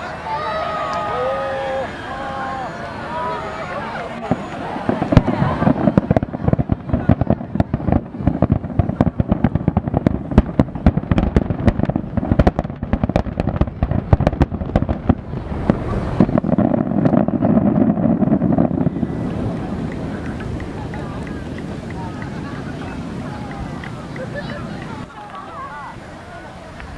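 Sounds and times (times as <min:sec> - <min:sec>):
steady rushing noise: 0:01.8 - 0:25.1
fireworks bangs and crackles: 0:02.3 - 0:26.1.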